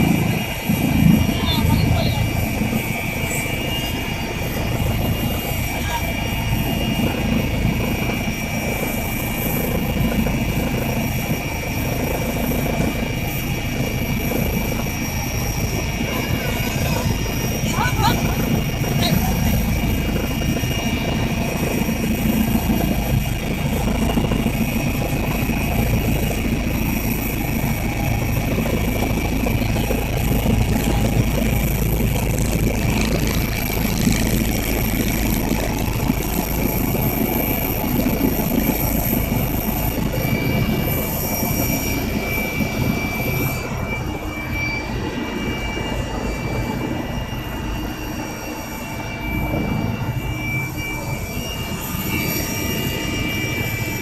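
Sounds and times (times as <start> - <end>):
helicopter engine and rotor running: 0.0 - 54.0.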